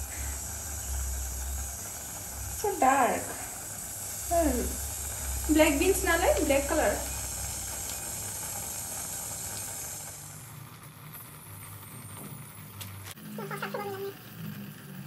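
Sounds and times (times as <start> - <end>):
stovetop cooking hiss: 0.0 - 15.0.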